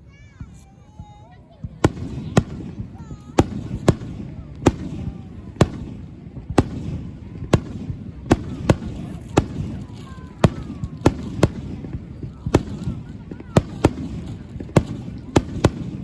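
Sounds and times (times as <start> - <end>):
fireworks bursting: 0.2 - 16.0.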